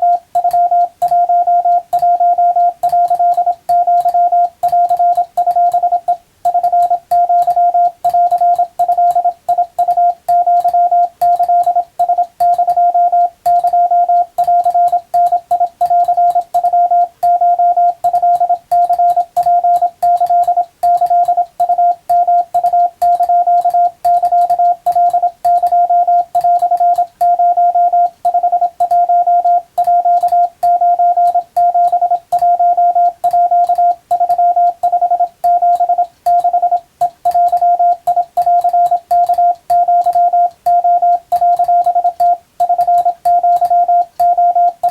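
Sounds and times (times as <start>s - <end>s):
keying clicks: 0.0s - 44.9s
morse code tone: 0.0s - 44.9s.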